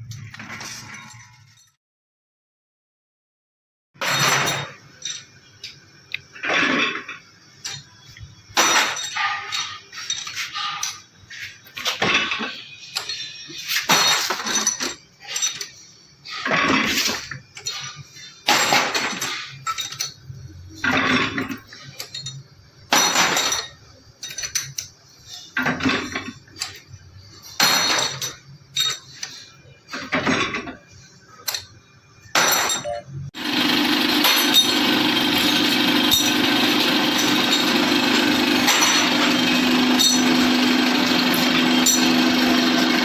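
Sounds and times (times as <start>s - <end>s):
metal parts clattering: 4.0s - 5.8s, 6.4s - 33.0s, 33.9s - 43.0s.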